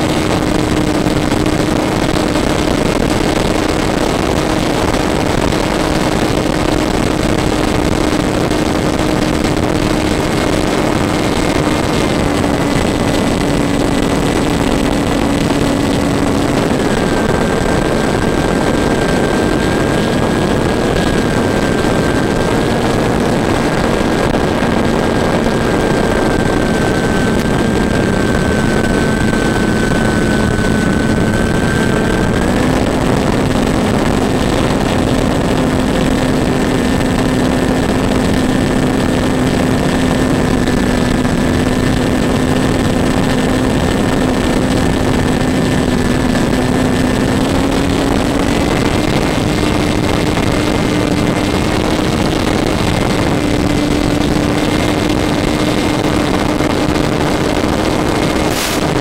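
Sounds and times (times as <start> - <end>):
model airplane motor and propeller: 0.0 - 59.0
rush of air noise: 0.0 - 59.0.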